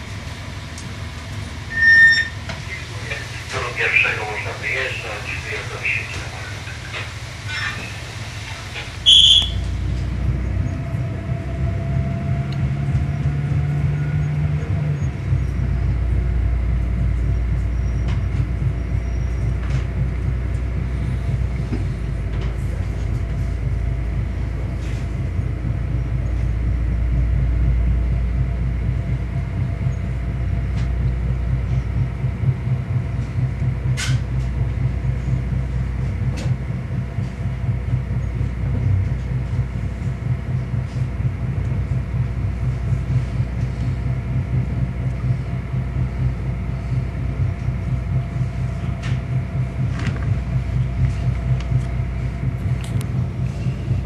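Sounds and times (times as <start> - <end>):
train running gear rumbling: 0.0 - 54.0.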